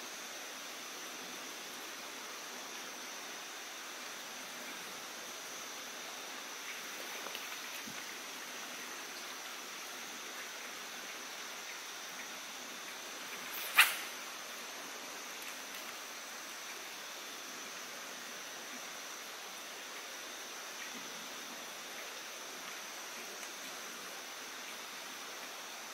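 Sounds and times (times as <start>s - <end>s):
outdoor background hiss: 0.0s - 25.9s.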